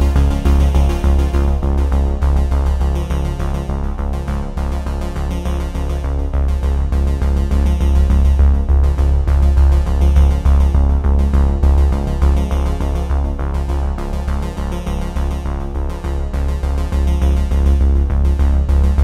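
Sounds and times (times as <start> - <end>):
electronic music with steady beat: 0.0 - 19.0.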